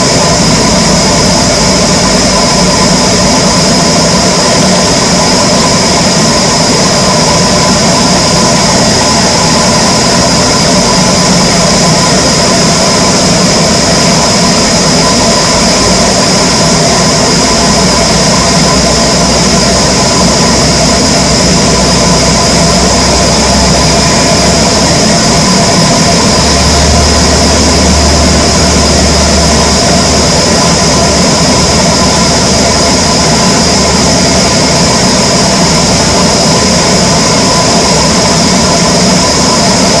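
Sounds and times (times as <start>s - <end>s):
wood-cutting machinery drone: 0.0s - 40.0s.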